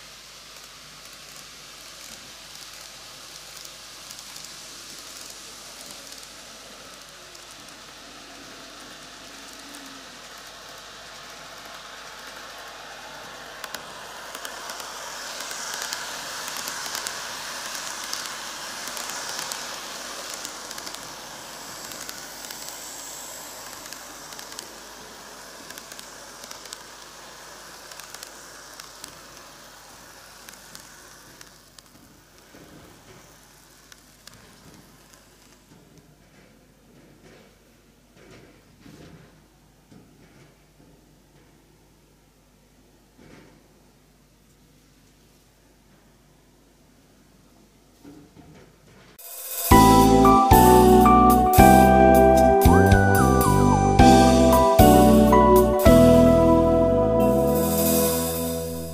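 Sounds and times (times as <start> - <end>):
model trains whirring on rails: 0.0 - 41.8, 49.2 - 58.9.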